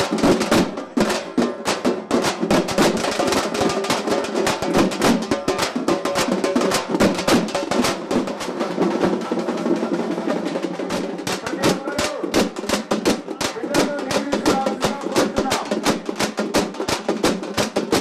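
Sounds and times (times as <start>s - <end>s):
drummers beating large drums: 0.0s - 18.0s.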